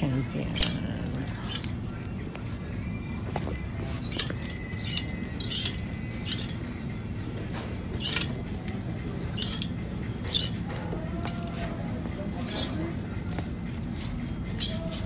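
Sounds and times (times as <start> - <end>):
clothes hangers clinking on rail: 0.0 - 2.1, 4.0 - 6.8, 7.4 - 15.0.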